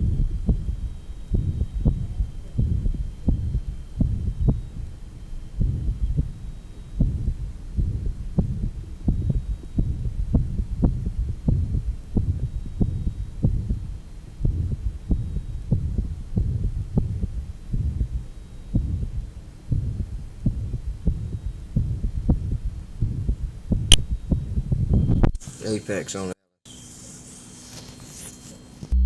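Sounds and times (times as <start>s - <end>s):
low heart murmur rumble: 0.0s - 25.4s
sharp regular heartbeats: 0.0s - 25.4s.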